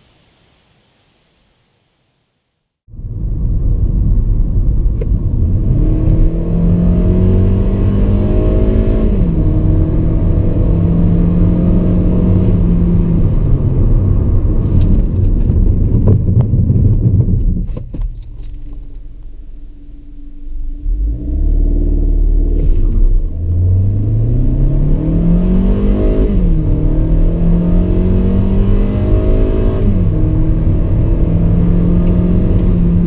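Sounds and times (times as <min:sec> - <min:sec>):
car engine accelerating: 0:03.0 - 0:17.6, 0:19.2 - 0:33.0.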